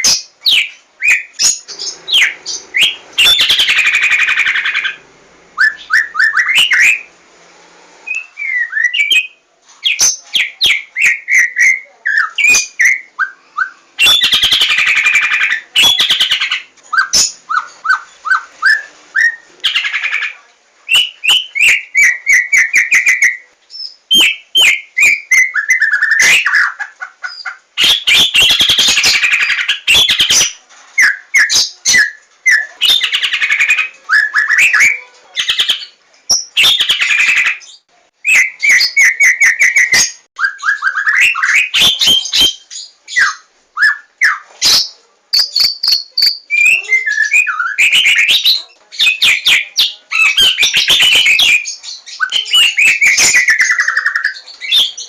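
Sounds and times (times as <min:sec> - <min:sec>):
bird singing varied song: 0:00.0 - 0:05.0, 0:05.6 - 0:07.1, 0:08.1 - 0:55.0.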